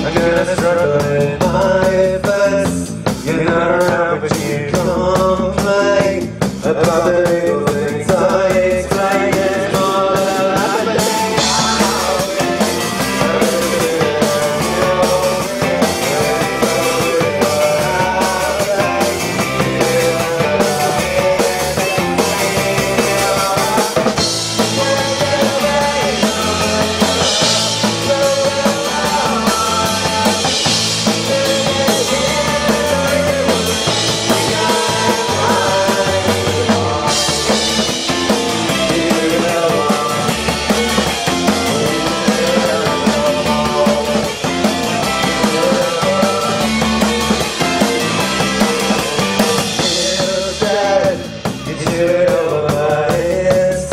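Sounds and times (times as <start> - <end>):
bass guitar: 0.0 - 53.9
drum kit: 0.0 - 53.9
electric guitars: 0.0 - 53.9.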